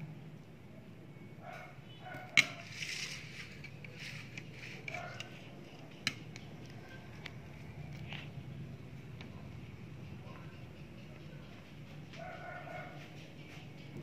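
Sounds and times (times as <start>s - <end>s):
room noise: 0.0s - 14.0s.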